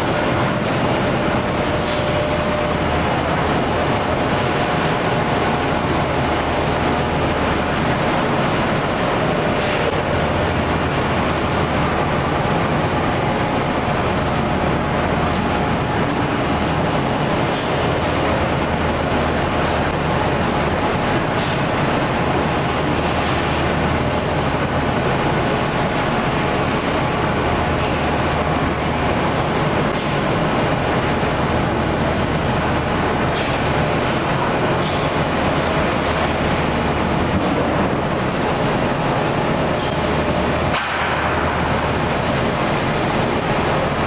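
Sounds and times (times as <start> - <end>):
folding machine drone: 0.0 - 44.0.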